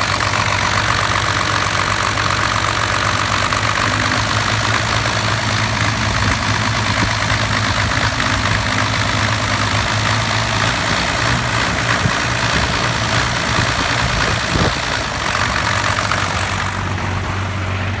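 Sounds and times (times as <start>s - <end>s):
diesel engine rough idling: 0.0s - 18.0s.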